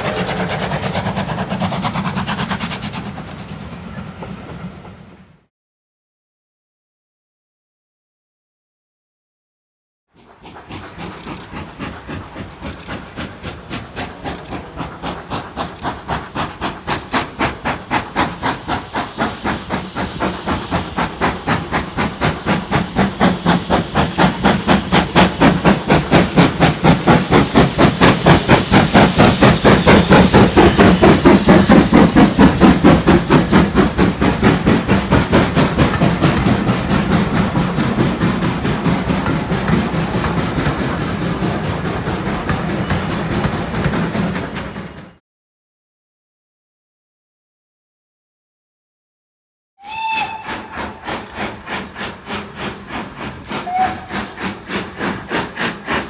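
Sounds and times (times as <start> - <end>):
steam locomotive exhaust chuffs: 0.0 - 5.5, 10.2 - 45.2, 49.8 - 56.0
train coaches rolling past: 0.0 - 5.5, 10.2 - 45.2, 49.8 - 56.0.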